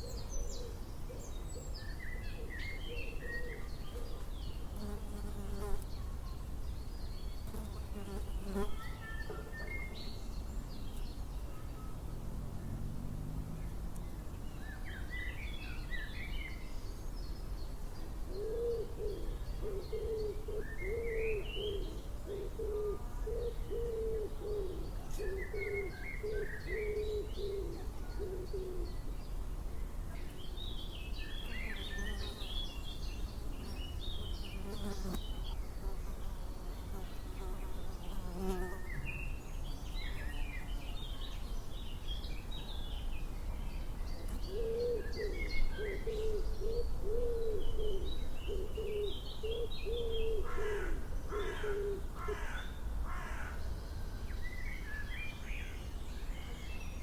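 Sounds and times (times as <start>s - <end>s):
outdoor background noise: 0.0s - 57.0s
songbirds singing: 0.0s - 57.0s.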